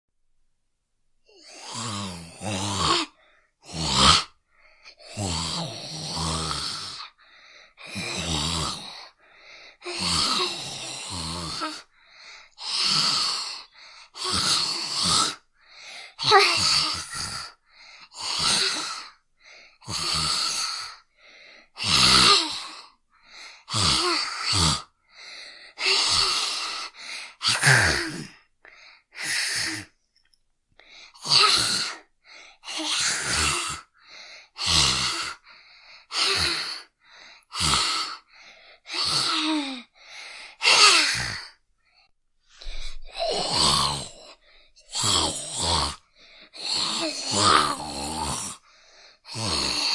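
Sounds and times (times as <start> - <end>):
child zombie groans and gasps: 1.3 - 29.9, 30.8 - 41.6, 42.6 - 49.9.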